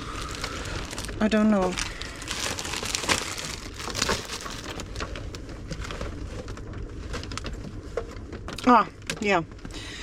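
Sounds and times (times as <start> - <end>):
rummaging rustling and shuffling: 0.0 - 9.4.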